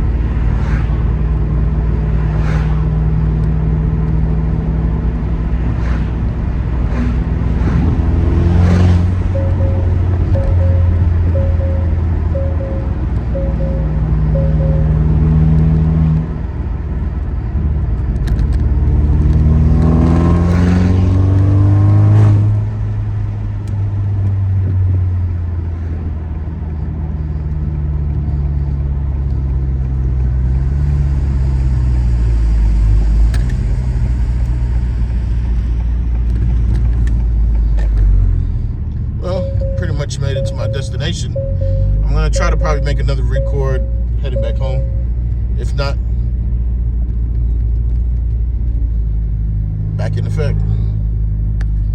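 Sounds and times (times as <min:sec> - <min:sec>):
car engine accelerating: 0:00.0 - 0:51.9.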